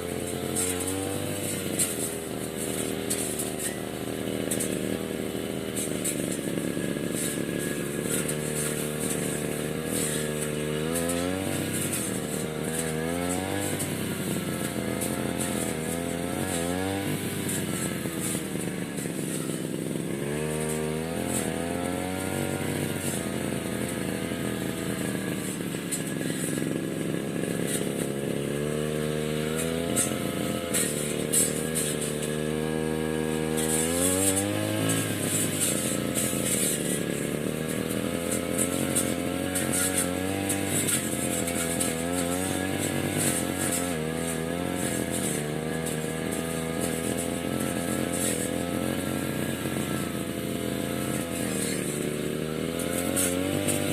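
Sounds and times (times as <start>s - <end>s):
lawn mower engine revving: 0.0s - 53.9s.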